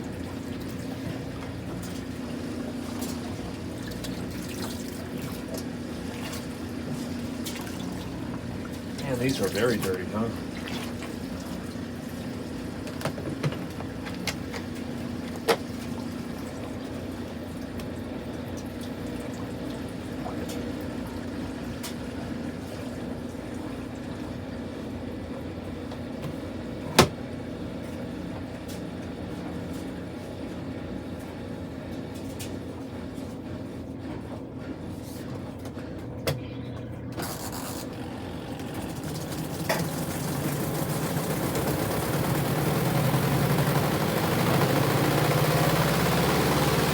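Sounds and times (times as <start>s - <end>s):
washing machine motor hum: 0.0s - 46.9s.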